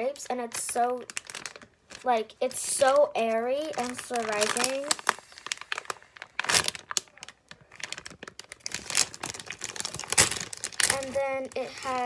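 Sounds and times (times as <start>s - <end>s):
plastic bag crackling: 0.0s - 12.0s.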